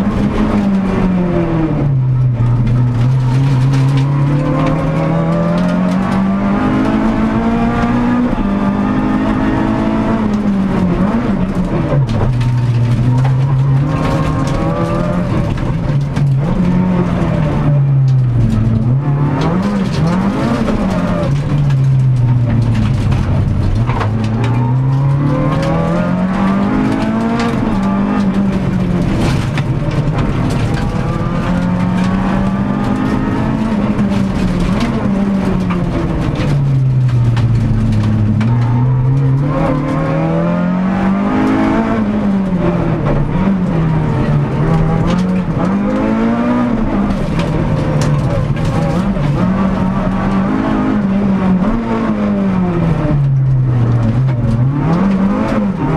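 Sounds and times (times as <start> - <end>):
rally car engine revving: 0.0 - 55.9
road and tyre noise: 0.0 - 55.9.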